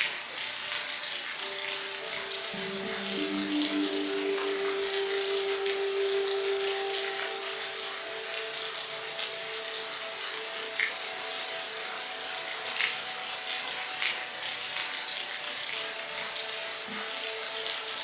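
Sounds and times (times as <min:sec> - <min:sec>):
louder water drips: 0:00.0 - 0:18.0
steady rain hiss: 0:00.0 - 0:18.0.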